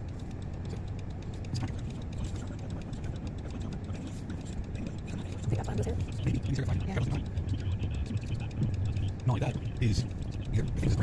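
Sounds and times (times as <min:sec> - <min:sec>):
car engine idling: 0:00.0 - 0:11.0
light ticking clicks: 0:00.0 - 0:11.0.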